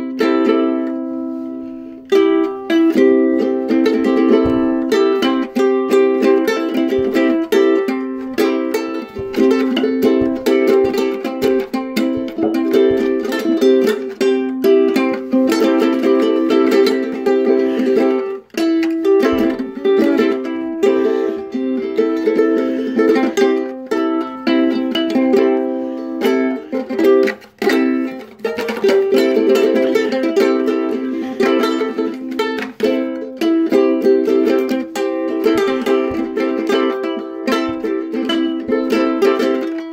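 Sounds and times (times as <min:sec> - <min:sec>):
ukulele strumming chords: 0:00.0 - 0:39.9.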